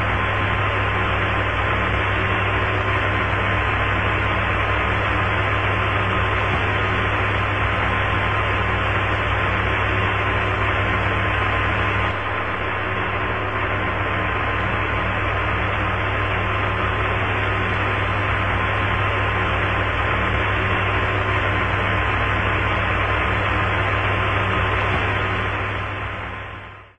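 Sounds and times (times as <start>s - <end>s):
low hum: 0.0s - 26.9s.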